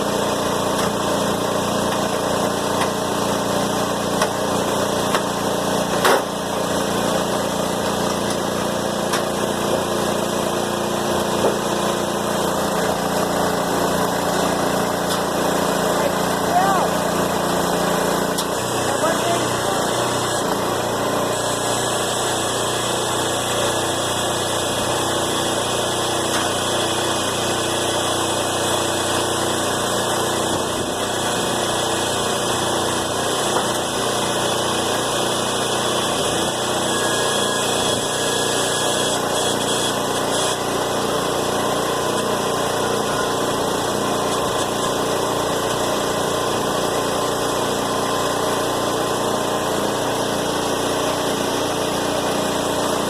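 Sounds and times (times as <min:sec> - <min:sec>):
small engine running steadily: 0:00.0 - 0:53.0.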